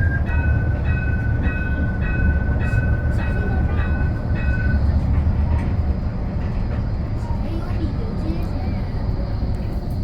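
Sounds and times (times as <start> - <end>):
tram rumbling: 0.0 - 10.0.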